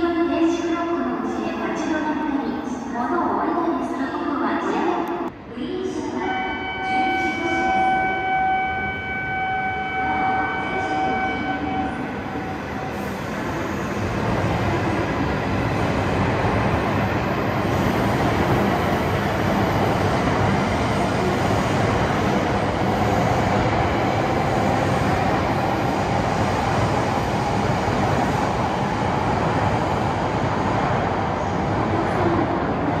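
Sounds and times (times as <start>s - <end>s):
train rushing noise: 6.0s - 33.0s.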